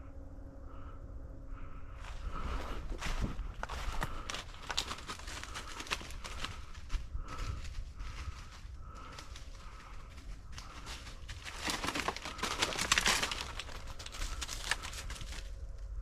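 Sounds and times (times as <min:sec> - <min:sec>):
footsteps through dry brush: 0:02.0 - 0:15.7.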